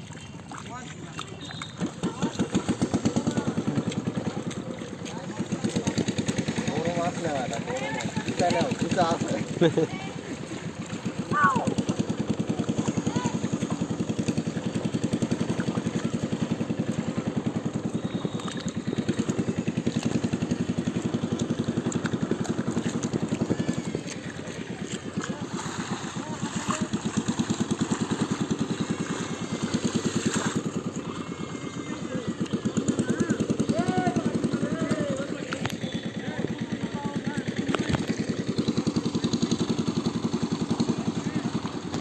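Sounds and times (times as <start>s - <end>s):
small engine chugging: 0.0s - 42.0s.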